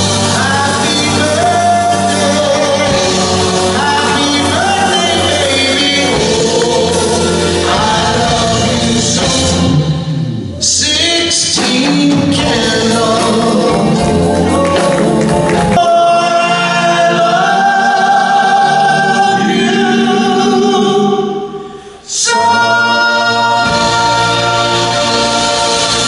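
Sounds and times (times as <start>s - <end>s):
male singer singing: 0.0s - 9.9s, 10.5s - 26.0s
band playing: 0.0s - 26.0s.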